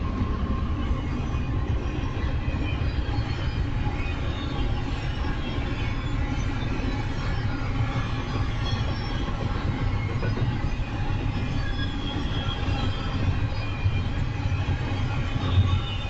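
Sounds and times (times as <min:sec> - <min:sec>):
faint wheel squeal: 0:00.0 - 0:16.0
train wheels rumbling on rail: 0:00.0 - 0:16.0.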